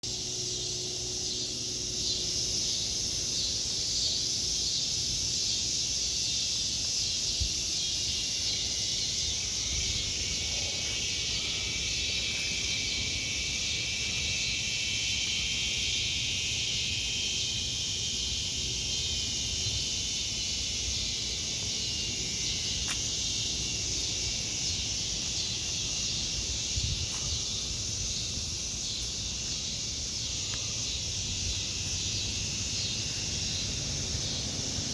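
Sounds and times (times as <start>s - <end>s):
cicadas singing: 0.0s - 34.9s.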